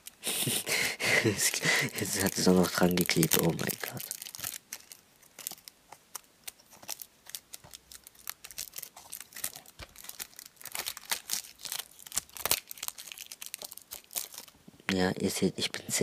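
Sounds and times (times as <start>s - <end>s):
plastic film crinkling: 0.0s - 0.2s, 1.2s - 14.6s.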